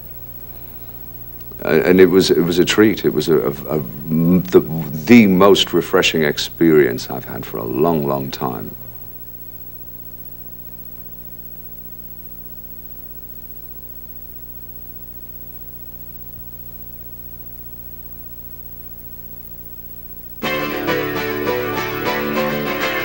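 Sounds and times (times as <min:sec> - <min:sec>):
mains hum: 0:00.0 - 0:23.0
tape hiss: 0:00.0 - 0:23.0.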